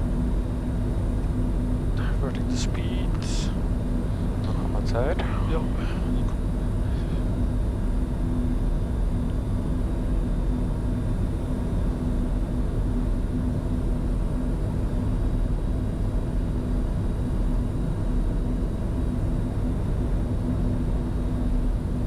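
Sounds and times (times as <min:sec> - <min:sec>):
constant low hum: 0:00.0 - 0:22.0
jet cockpit airflow rumble: 0:00.0 - 0:22.0.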